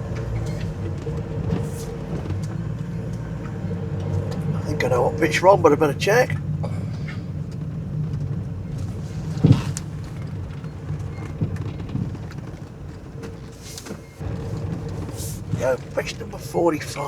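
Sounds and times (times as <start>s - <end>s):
van engine low rumble: 0.0s - 17.0s.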